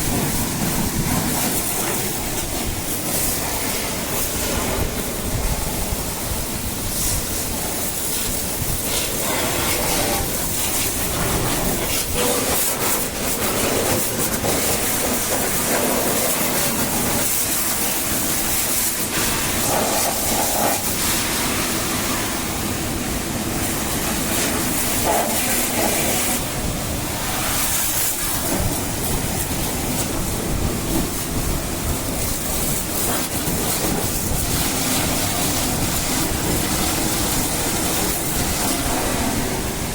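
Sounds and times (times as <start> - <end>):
high-pressure water jet spraying: 0.0 - 39.9.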